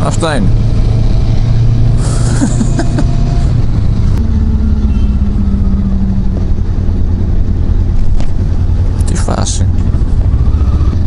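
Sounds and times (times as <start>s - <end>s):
motorcycle engine running: 0.0s - 11.0s
steady low tone: 0.5s - 11.0s.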